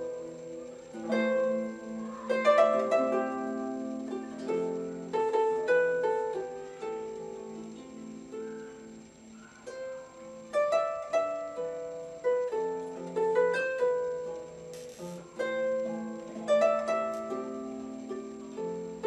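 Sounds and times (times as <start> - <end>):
harp playing slow melody: 0.0 - 19.0.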